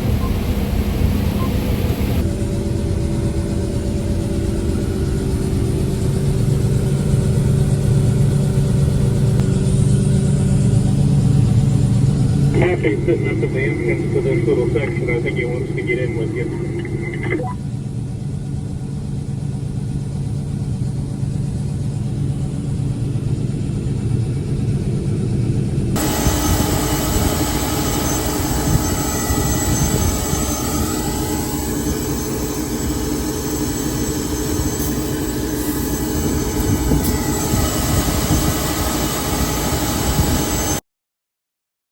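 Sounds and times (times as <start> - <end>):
combine harvester engine drone: 0.0 - 40.8.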